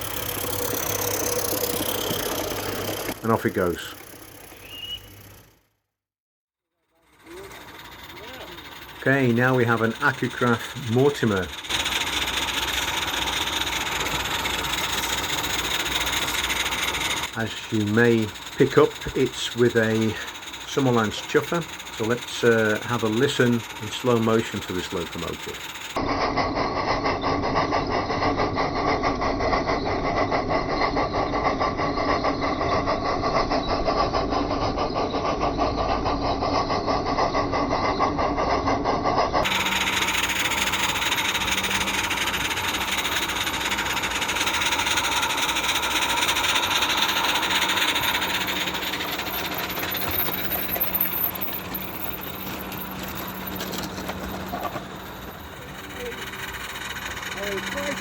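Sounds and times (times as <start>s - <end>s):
steam locomotive chuffing: 0.0s - 5.6s, 7.0s - 58.0s
steady low hum: 7.1s - 58.0s.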